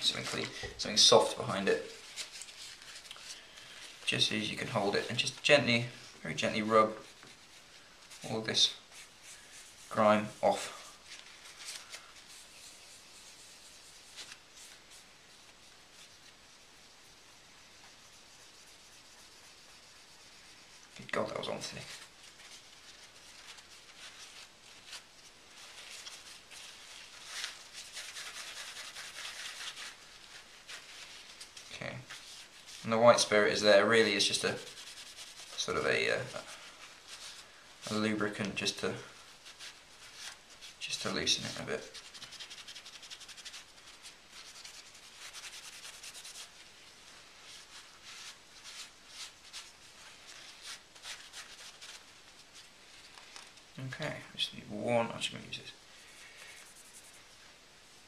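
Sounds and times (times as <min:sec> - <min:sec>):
paper towel scrubbing metal: 0:00.0 - 0:53.6.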